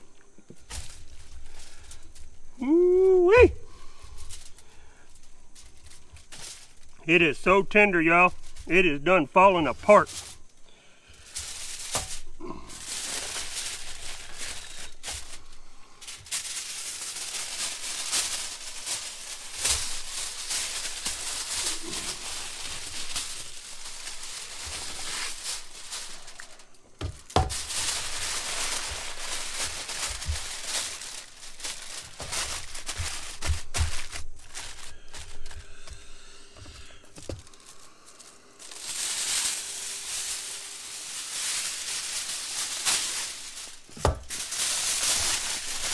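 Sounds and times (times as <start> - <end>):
aluminum foil crinkling: 0.0 - 45.9
foil pulled off roll: 0.5 - 36.0, 36.6 - 45.9.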